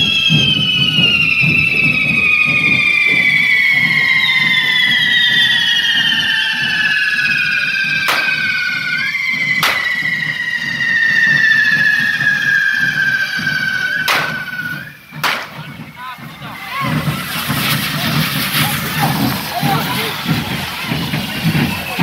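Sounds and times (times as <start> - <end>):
firework bangs: 0.0 - 22.0
whistling fireworks: 0.0 - 22.0.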